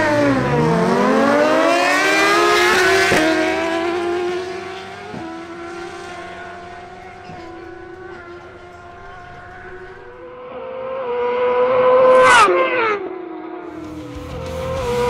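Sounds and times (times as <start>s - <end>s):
motorcycles accelerating hard: 0.0s - 15.0s.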